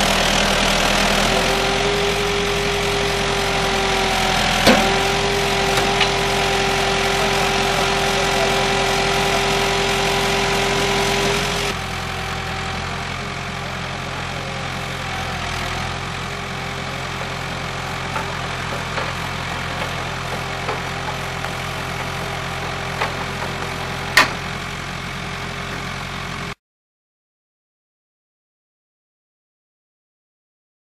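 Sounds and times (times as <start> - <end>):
engine running steadily: 0.0 - 26.6.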